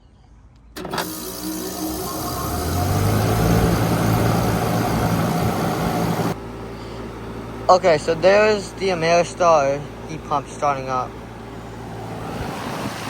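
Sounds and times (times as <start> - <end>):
heat pump humming: 0.8 - 12.2.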